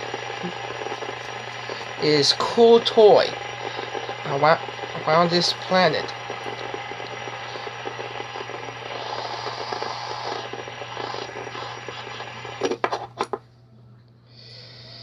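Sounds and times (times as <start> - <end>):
fidget spinner whirring: 0.0 - 13.4.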